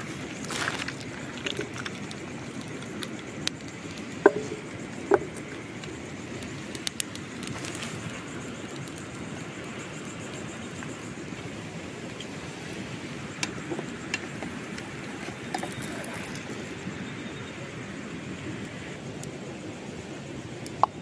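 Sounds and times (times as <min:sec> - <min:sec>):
wood fire crackling: 0:00.0 - 0:17.3.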